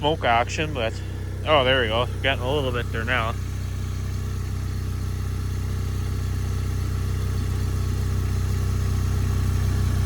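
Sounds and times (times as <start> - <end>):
snowmobile engine idling: 0.0 - 10.0.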